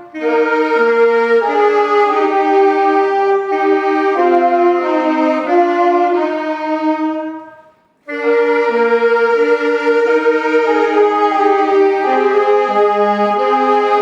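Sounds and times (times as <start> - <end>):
reedy held organ chords: 0.0 - 14.0.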